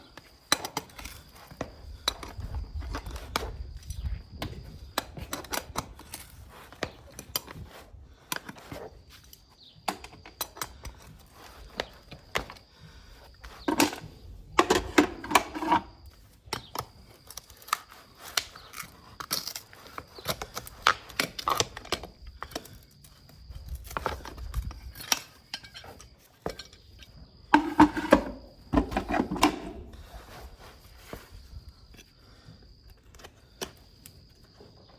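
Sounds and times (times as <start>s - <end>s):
metal tools clicking and scraping hoof: 0.2s - 30.5s.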